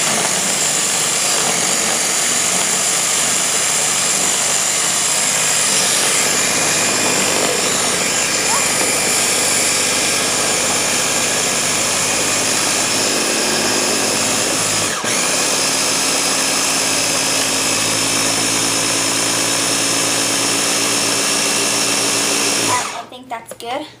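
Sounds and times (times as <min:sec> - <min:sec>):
blender motor churning ice cream: 0:00.0 - 0:23.1.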